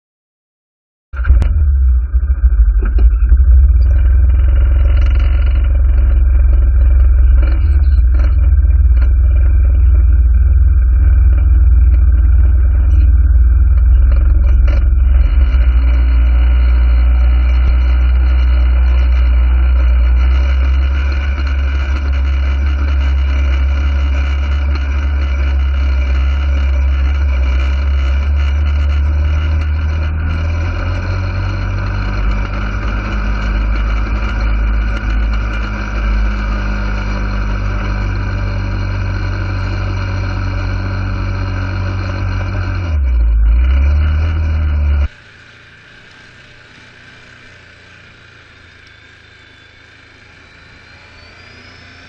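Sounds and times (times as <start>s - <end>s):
off-road vehicle engine running: 1.2s - 52.0s.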